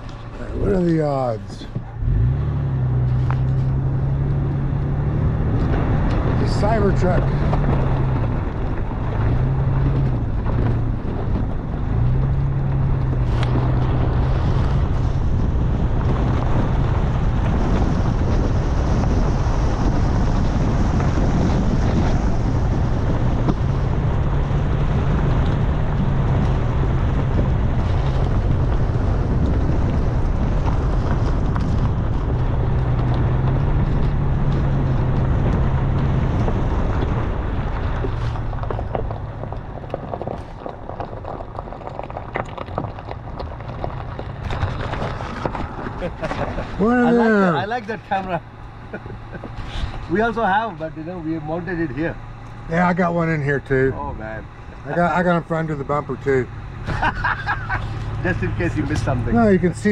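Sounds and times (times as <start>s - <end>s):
car engine hum: 0.0s - 59.9s
tyres rumbling on rock and gravel: 0.0s - 59.9s
wind buffeting microphone: 0.0s - 59.9s.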